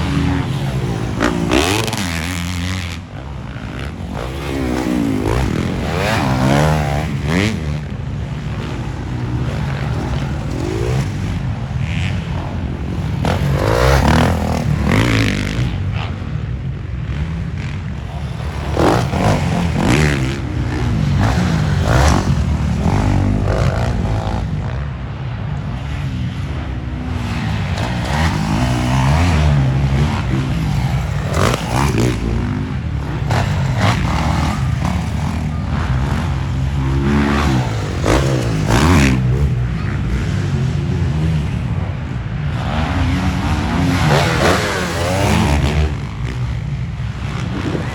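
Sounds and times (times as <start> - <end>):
dirt bike engines revving: 0.0 - 47.9.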